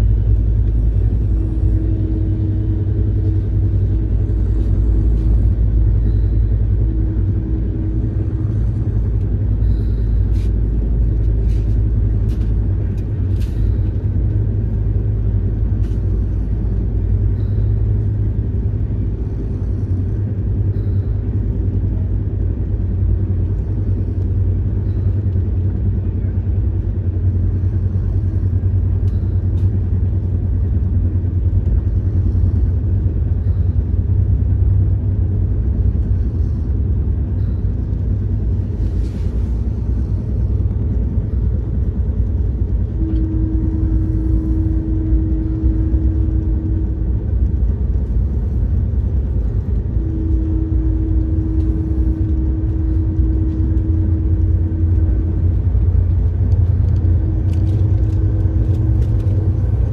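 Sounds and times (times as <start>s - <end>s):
mid-pitched hum: 0.0s - 59.9s
train wheels rumbling on rails: 0.0s - 59.9s.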